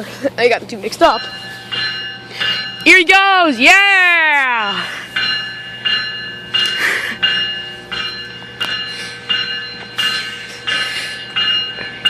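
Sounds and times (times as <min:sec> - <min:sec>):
locomotive bell ringing: 0:00.0 - 0:12.0
train noise: 0:00.0 - 0:12.0.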